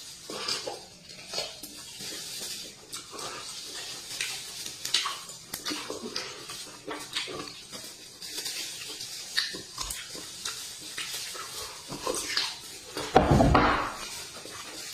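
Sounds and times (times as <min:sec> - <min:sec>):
wet chewing and smacking: 0:00.0 - 0:13.2, 0:13.9 - 0:14.9.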